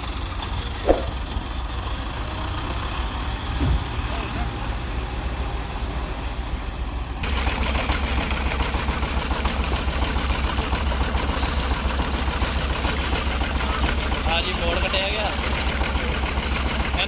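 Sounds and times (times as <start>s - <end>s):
engine pulsing rumble: 0.0s - 4.0s, 7.2s - 17.0s.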